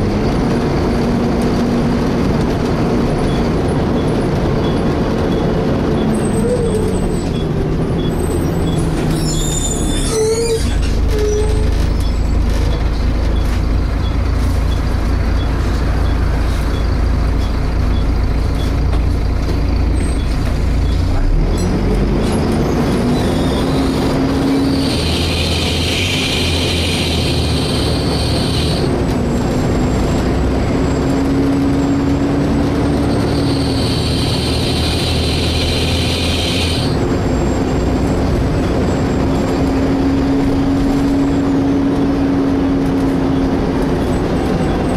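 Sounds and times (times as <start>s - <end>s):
bus engine rumble: 0.0s - 44.9s.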